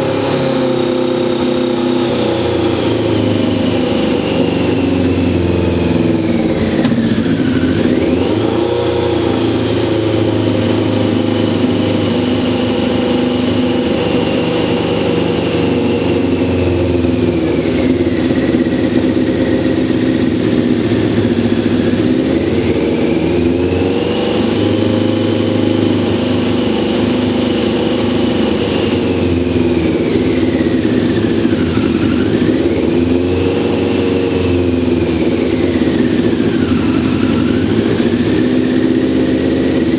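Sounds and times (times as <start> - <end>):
motorcycle engine running unevenly: 0.0 - 39.9.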